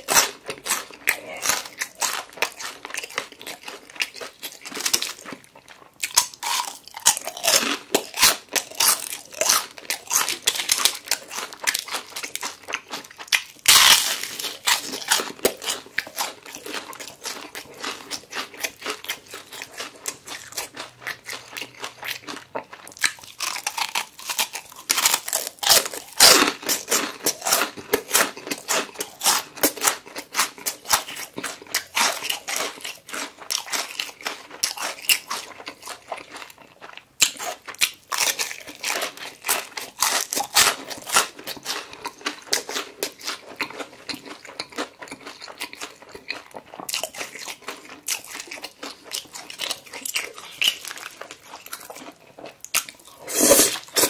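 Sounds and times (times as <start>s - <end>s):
crunching fried chicken: 0.0s - 54.0s.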